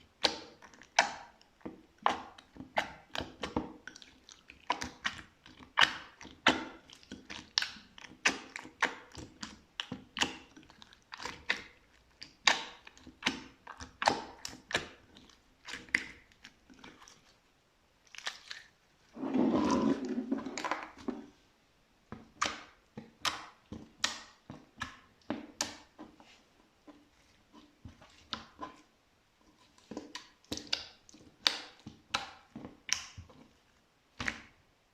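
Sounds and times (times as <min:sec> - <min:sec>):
slime squelching: 0:00.0 - 0:21.4, 0:22.1 - 0:34.6.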